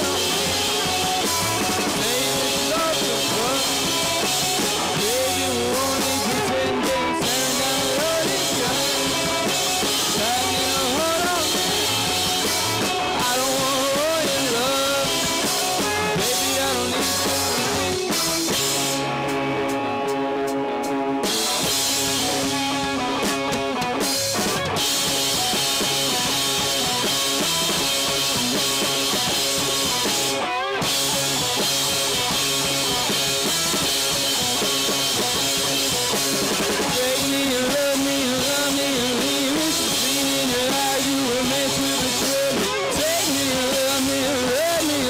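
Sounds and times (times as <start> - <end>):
drum kit: 0.0 - 45.0
electric bass: 0.0 - 45.0
electric guitars: 0.0 - 45.0.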